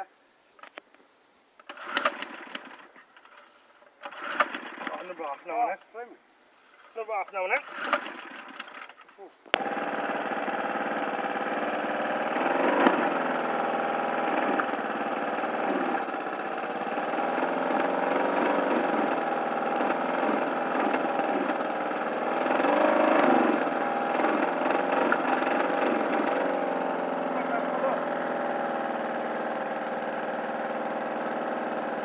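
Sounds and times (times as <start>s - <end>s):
lawn mower engine running: 1.6s - 32.0s.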